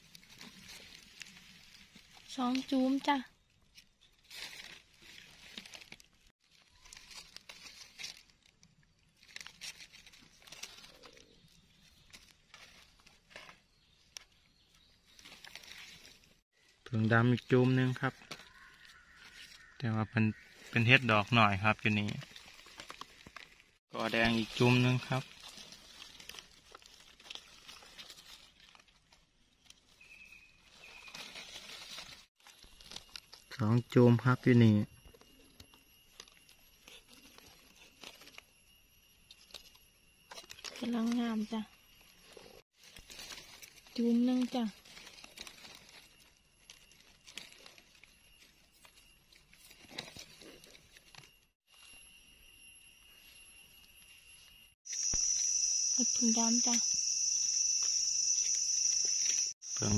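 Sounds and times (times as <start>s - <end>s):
dry leaves rustling: 0.0s - 34.1s, 35.3s - 52.1s, 53.9s - 59.9s.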